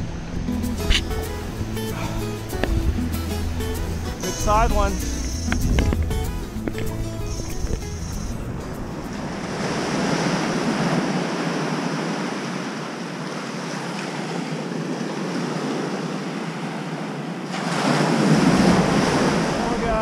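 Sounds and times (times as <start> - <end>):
waves washing on sand: 0.0 - 20.0.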